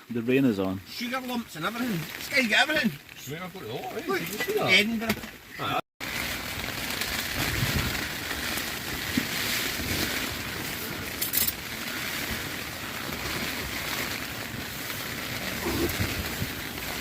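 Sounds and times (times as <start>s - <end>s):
heavy rain falling: 0.1s - 17.0s.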